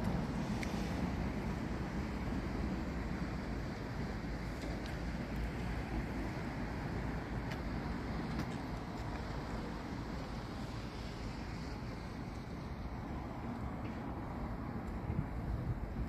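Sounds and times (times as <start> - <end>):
low city background rumble: 0.0 - 16.0.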